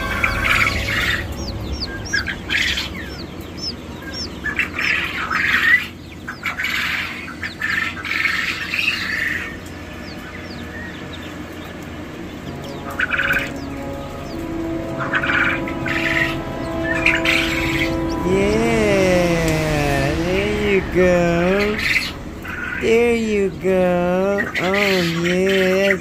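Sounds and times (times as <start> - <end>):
harsh squawking: 0.0 - 10.9, 12.4 - 26.0
chicks peeping: 0.0 - 26.0.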